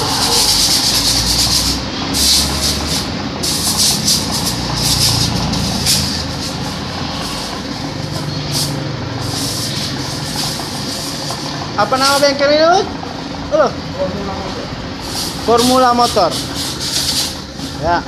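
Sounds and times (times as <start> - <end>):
air blow gun hissing: 0.0 - 12.4, 14.9 - 18.0.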